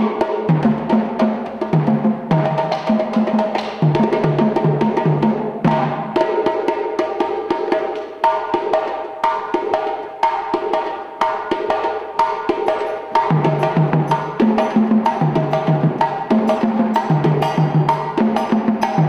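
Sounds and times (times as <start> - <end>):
djembe slaps and tones: 0.0 - 19.0.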